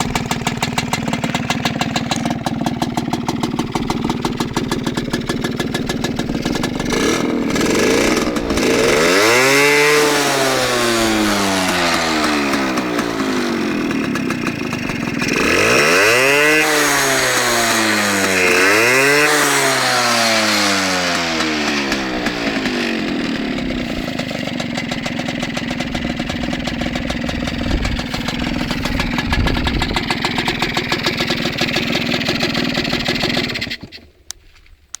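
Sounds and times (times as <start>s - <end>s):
two-stroke engine revving and idling: 0.0s - 34.2s.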